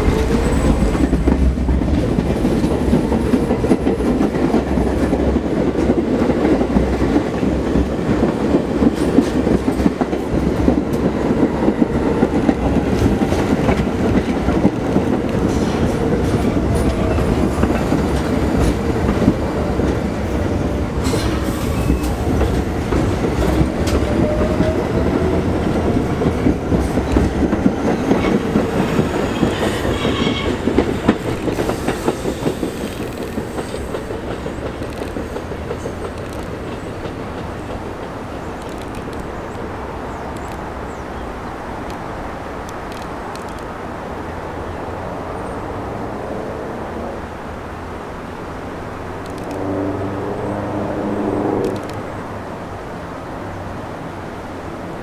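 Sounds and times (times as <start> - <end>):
subway train wheels clattering: 0.0 - 55.0.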